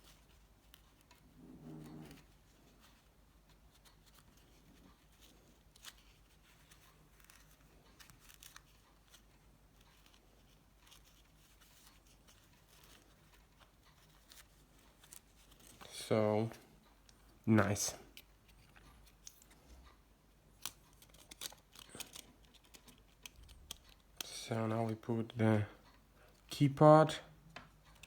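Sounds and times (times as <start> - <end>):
faint clicks and scratching: 0.0 - 26.5, 27.4 - 28.0.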